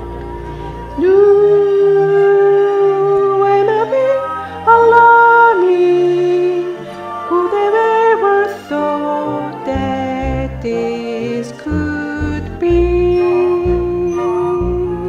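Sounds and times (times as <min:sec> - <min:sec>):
soft instrumental backing: 0:00.0 - 0:15.0
wordless singing voice: 0:00.0 - 0:15.0.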